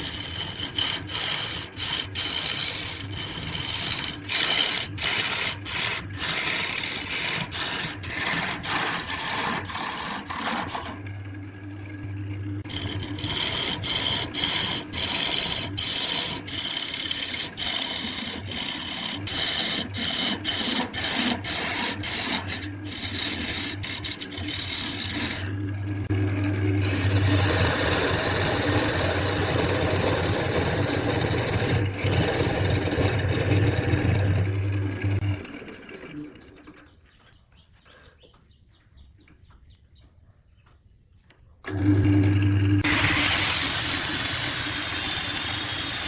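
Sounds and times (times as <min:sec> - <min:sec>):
tool scraping spinning wood: 0:00.0 - 0:11.4, 0:12.0 - 0:37.6, 0:42.8 - 0:46.0
lathe motor hum: 0:00.0 - 0:36.7, 0:42.8 - 0:46.0.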